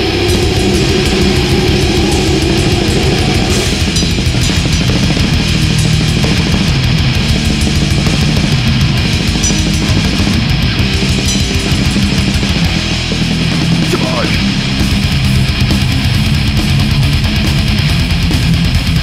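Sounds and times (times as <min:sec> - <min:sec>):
distorted electric guitars: 0:00.0 - 0:19.0
drums: 0:00.0 - 0:19.0.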